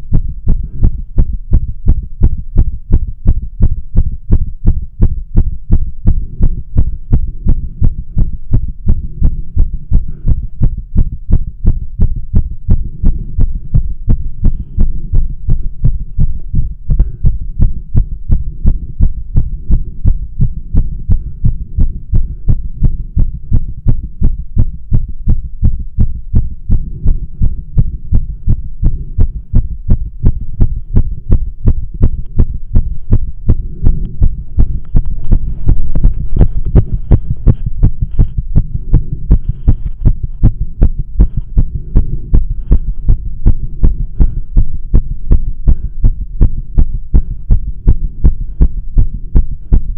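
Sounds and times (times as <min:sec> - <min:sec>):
heart beating through stethoscope: 0:00.0 - 0:49.9
low steady hum: 0:00.0 - 0:49.9.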